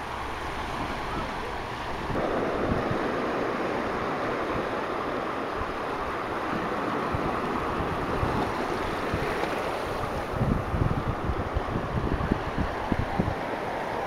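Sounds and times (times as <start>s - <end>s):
small waves washing: 0.0s - 14.0s
wind bumps on microphone: 0.0s - 14.0s.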